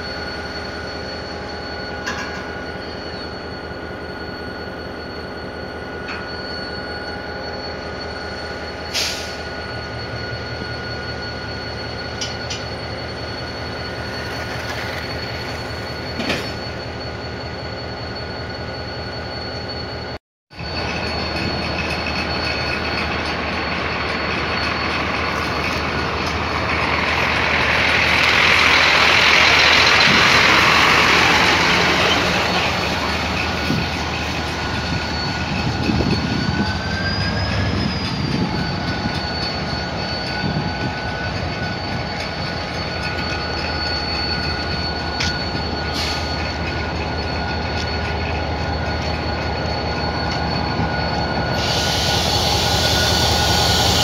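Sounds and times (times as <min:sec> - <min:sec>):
diesel locomotive engine: 0:00.0 - 0:54.0
high wheel squeal: 0:00.0 - 0:54.0.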